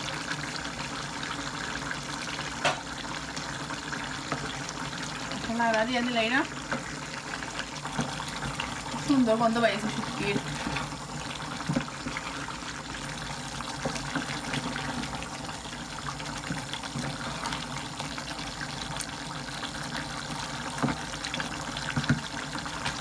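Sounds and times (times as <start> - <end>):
curry bubbling in a pot: 0.0 - 23.0.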